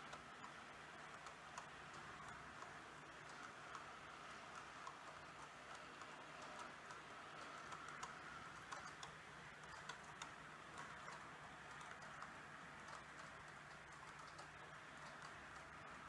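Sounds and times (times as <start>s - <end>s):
model train wheels clicking: 0.0s - 16.0s
steady low hum: 0.0s - 16.0s.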